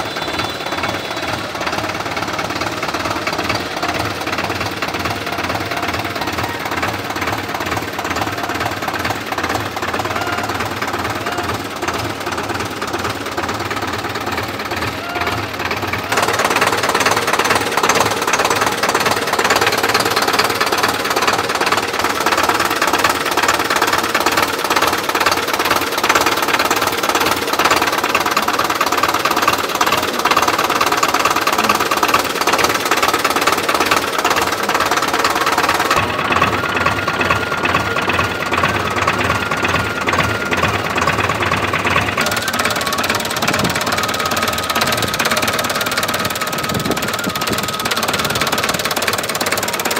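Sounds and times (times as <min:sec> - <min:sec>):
tractor diesel engine clattering: 0:00.0 - 0:49.9.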